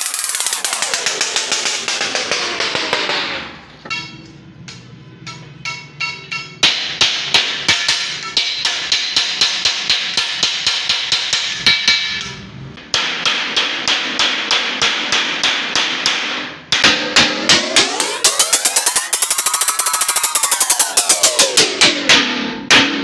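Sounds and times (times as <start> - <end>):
hammer striking sheet metal: 0.0 - 23.0.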